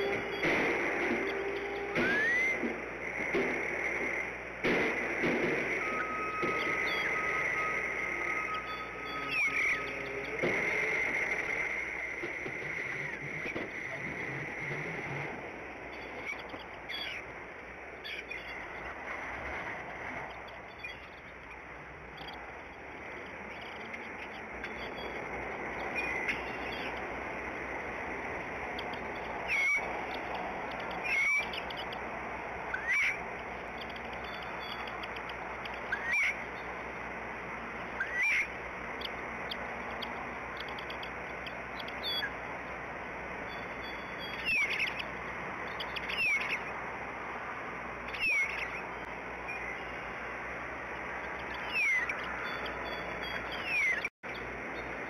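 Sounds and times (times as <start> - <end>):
eagle chirping: 0.0 - 17.3, 20.3 - 36.7, 37.9 - 42.4, 43.4 - 46.8, 48.0 - 50.2, 51.0 - 54.9
outdoor background hiss: 0.0 - 55.0.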